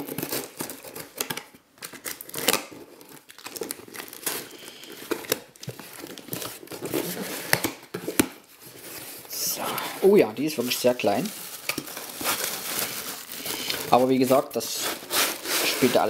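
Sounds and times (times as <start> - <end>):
packing tape pulled apart: 0.0 - 9.1, 11.4 - 14.0, 14.8 - 16.0.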